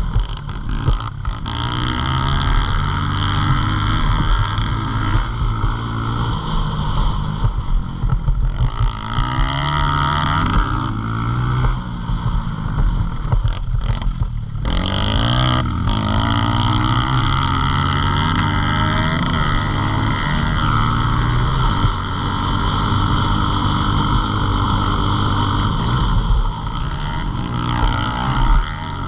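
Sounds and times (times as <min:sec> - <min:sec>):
pit bike engines revving: 0:00.0 - 0:29.0.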